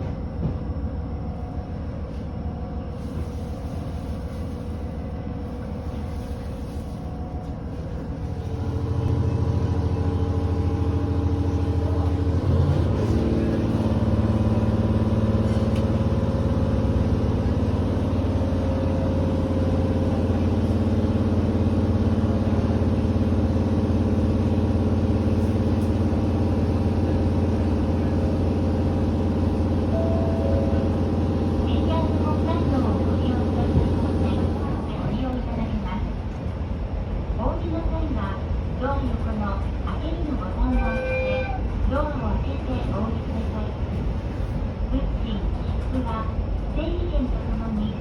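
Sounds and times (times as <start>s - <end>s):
railcar engine and running gear: 0.0s - 48.0s.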